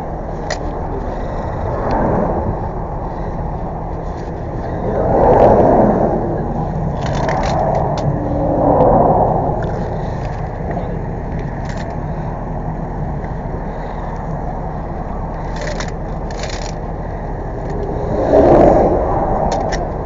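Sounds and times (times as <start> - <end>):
vehicle engine idling: 0.0 - 18.3.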